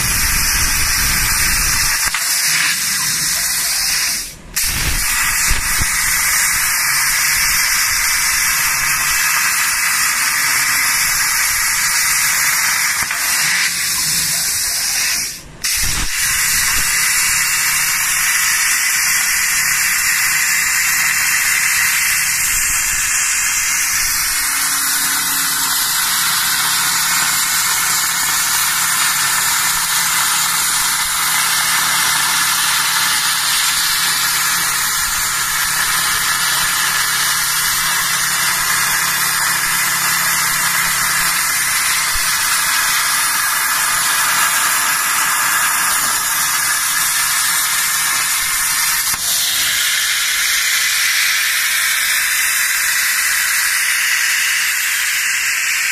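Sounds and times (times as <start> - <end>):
plasma cutter hissing: 0.0 - 55.9.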